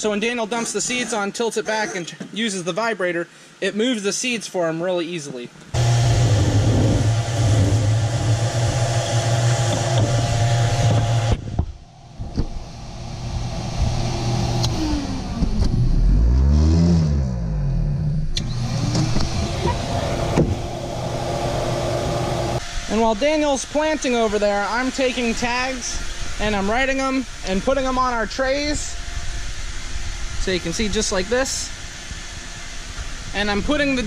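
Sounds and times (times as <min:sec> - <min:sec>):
vacuum rushing: 0:05.8 - 0:33.9
electric vibrator buzzing: 0:05.8 - 0:34.0
machine whine: 0:05.8 - 0:34.0.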